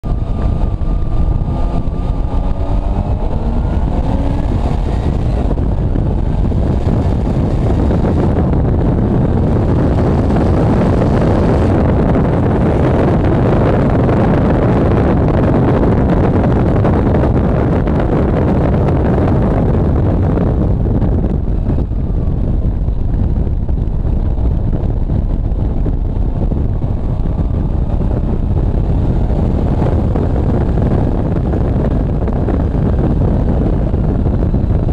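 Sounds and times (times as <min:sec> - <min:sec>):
car engine at speed: 0:00.0 - 0:34.9
wind noise on microphone: 0:00.0 - 0:34.9.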